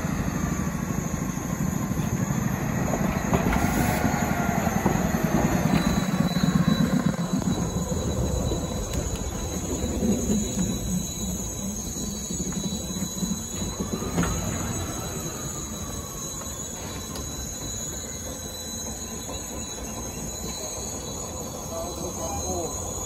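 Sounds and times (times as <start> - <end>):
faint wheel squeal: 0.0 - 23.0
train wheels rumbling on track: 0.0 - 23.0
train clunk: 1.3 - 22.6.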